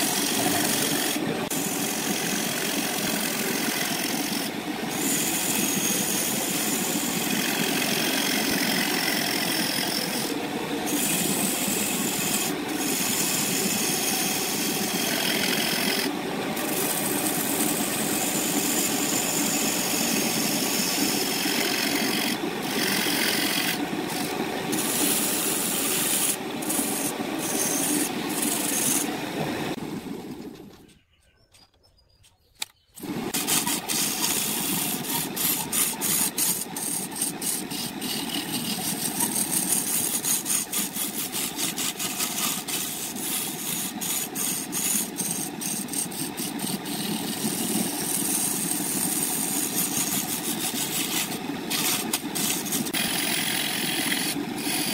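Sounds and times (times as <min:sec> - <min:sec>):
wood lathe tool rubbing: 0:00.0 - 0:30.9, 0:33.0 - 0:54.9.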